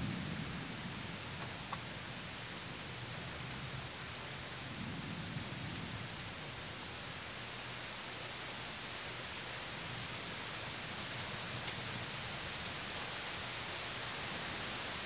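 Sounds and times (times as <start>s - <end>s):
steady rain hissing: 0.0s - 15.0s.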